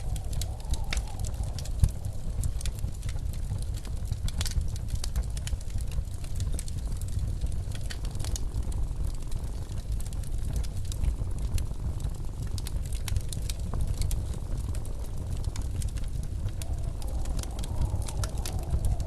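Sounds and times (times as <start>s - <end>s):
blizzard wind rumble: 0.0s - 19.0s
wood fire crackling: 0.0s - 19.0s.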